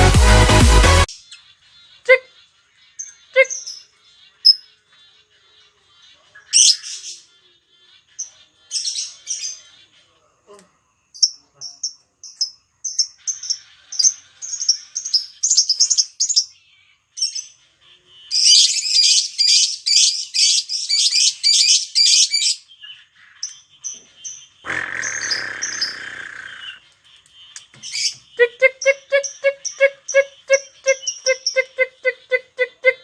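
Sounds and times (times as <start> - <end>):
lovebird chirping and chattering: 1.1 - 33.0.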